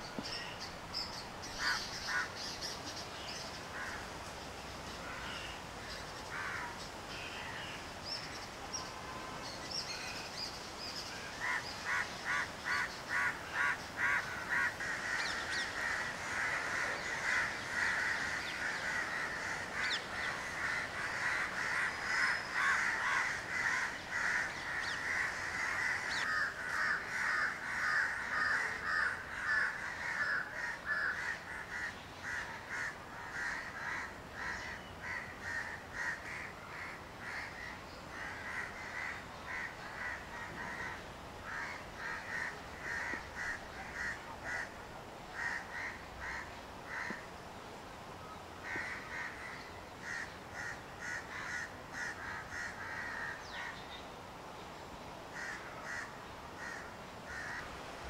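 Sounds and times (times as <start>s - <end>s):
birds calling: 0.0s - 47.5s
wind rustling in trees: 0.0s - 58.0s.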